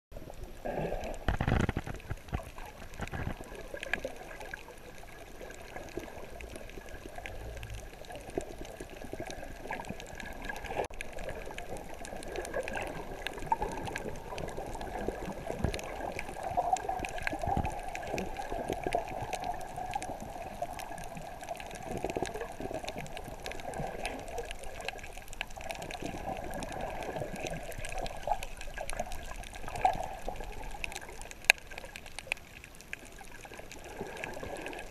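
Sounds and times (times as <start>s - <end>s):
muffled underwater rush: 0.1s - 34.9s
underwater clicks and crackles: 0.2s - 34.9s.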